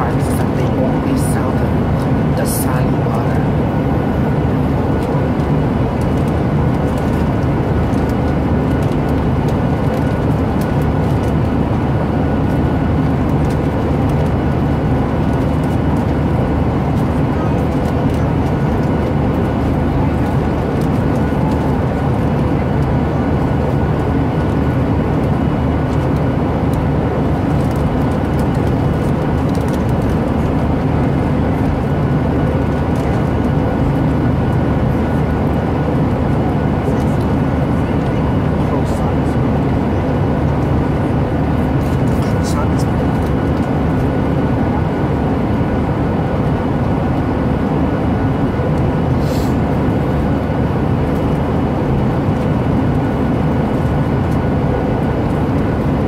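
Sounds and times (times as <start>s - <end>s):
faint steady whine: 0.0s - 56.0s
jet cabin drone: 0.0s - 56.0s.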